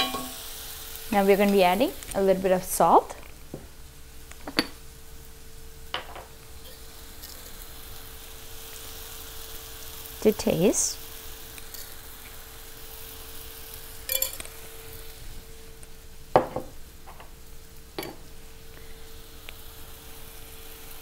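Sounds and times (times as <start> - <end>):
food sizzling in a hot pan: 0.0 - 21.0.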